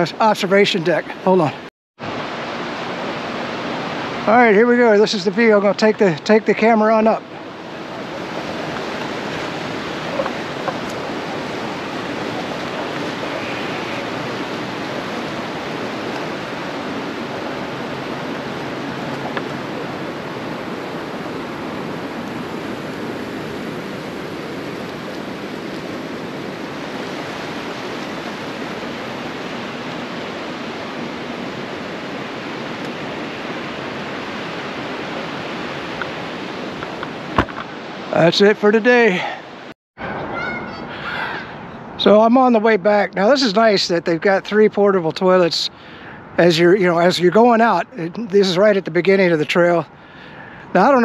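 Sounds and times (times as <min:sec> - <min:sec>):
river water rushing: 0:00.0 - 0:42.6.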